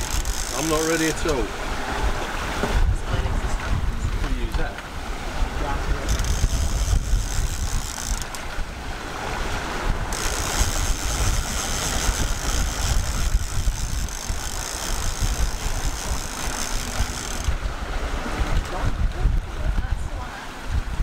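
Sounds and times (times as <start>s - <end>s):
sea water rushing past hull: 0.0s - 21.0s
wind buffeting microphone: 0.0s - 21.0s.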